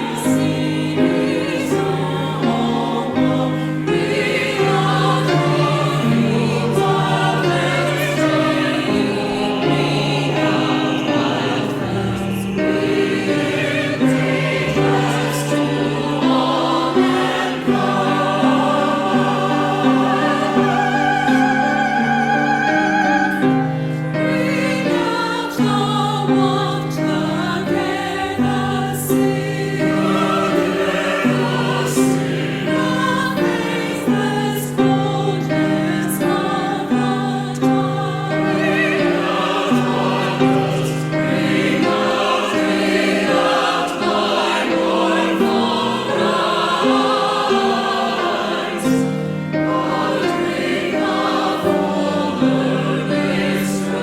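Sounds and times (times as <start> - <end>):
choir singing in parts: 0.0 - 54.0.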